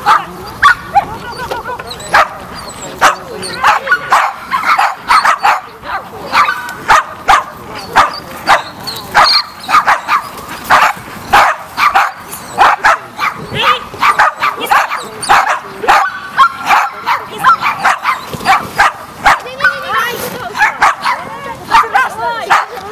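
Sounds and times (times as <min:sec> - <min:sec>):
dog barking: 0:00.0 - 0:01.1, 0:02.1 - 0:02.4, 0:03.0 - 0:19.8, 0:20.5 - 0:22.8.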